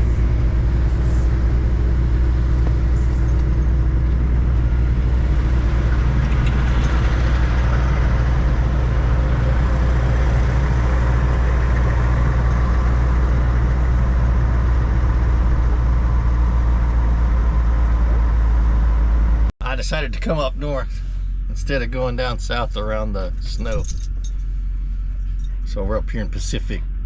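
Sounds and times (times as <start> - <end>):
truck diesel engine droning: 0.0 - 27.0.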